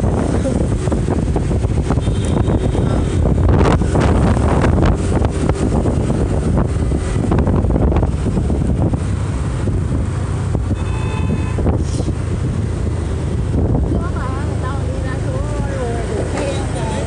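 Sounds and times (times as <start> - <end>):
wind rushing over microphone: 0.0 - 16.3
road noise: 0.0 - 17.0.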